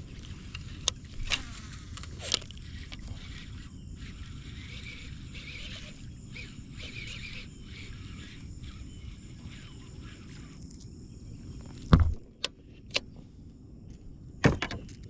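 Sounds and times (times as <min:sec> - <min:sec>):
outdoor chirping: 0:02.6 - 0:15.0.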